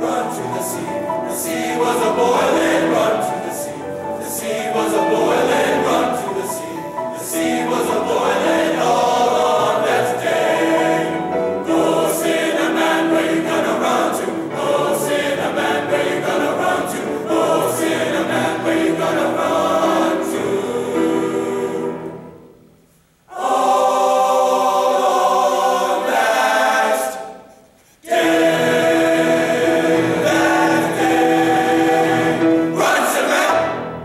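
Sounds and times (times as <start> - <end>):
boys' choir singing in harmony: 0.0 - 22.6, 23.3 - 34.0.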